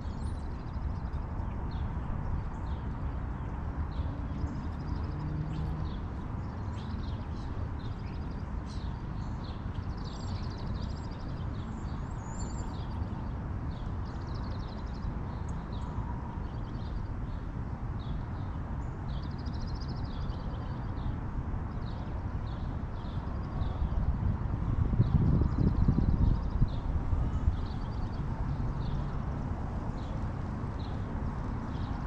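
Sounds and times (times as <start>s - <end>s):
songbirds chirping and trilling: 0.0s - 32.0s
wind rumble on microphone: 0.0s - 32.0s.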